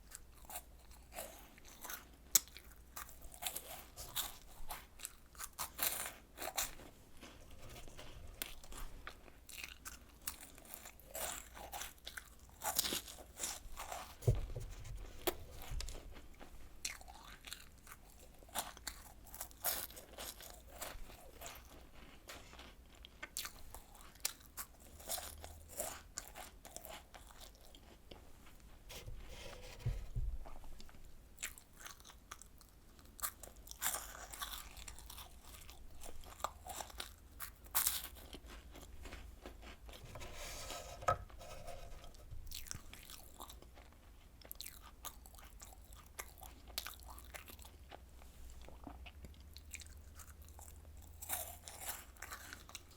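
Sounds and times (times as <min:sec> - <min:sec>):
crunching and chewing snacks: 0:00.0 - 0:28.7, 0:30.6 - 0:40.3, 0:41.9 - 0:52.9.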